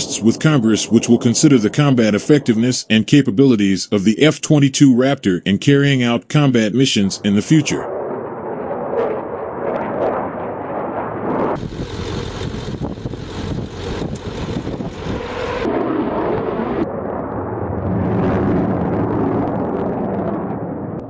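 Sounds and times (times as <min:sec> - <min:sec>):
jet engines roaring overhead: 0:00.0 - 0:04.2, 0:06.0 - 0:21.0.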